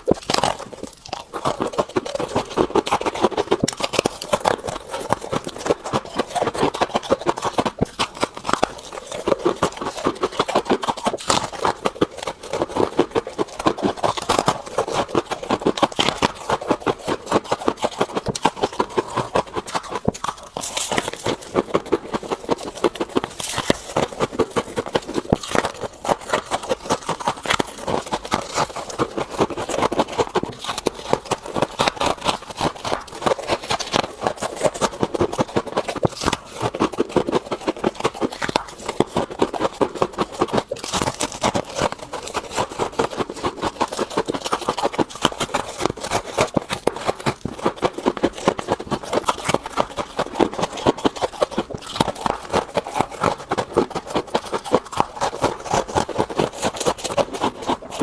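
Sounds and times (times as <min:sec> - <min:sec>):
person chewing crunchy ice: 0:00.0 - 0:58.0.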